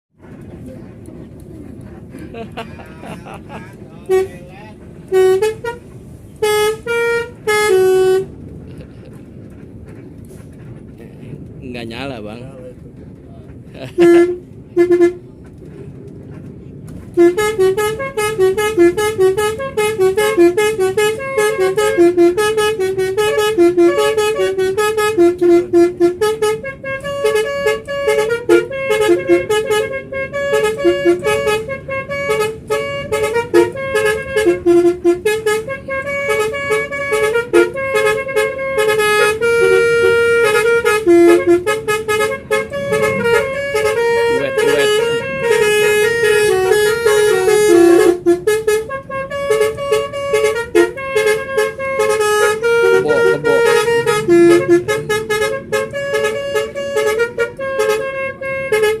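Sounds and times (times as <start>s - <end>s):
vehicle horn playing a tune: 3.5s - 4.5s, 5.1s - 8.4s, 13.9s - 15.2s, 17.1s - 59.0s.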